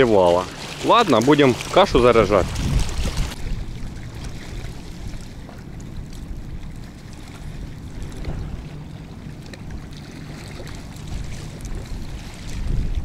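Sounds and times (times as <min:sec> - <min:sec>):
water washing on a stony shore: 0:00.0 - 0:13.0
wind buffeting the microphone: 0:00.0 - 0:13.0.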